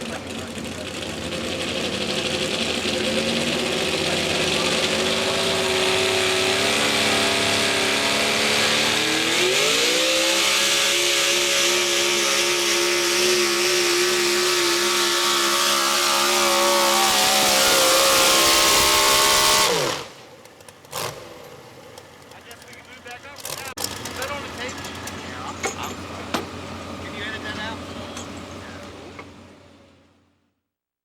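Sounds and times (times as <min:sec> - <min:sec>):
truck engine running flat out: 0:00.0 - 0:30.5.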